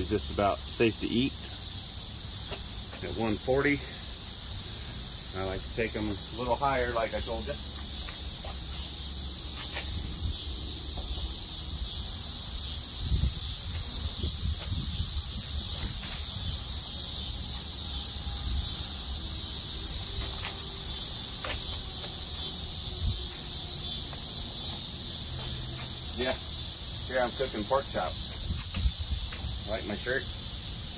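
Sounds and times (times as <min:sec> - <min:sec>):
insects chorus: 0:00.0 - 0:30.9.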